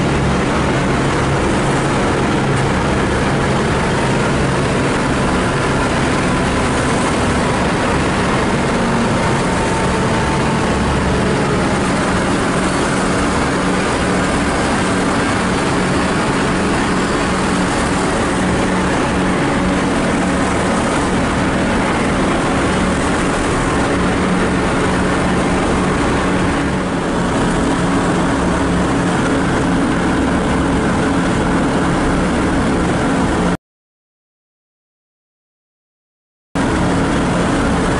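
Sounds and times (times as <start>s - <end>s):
aircraft propeller engines droning: 0.0s - 33.6s, 36.6s - 37.9s.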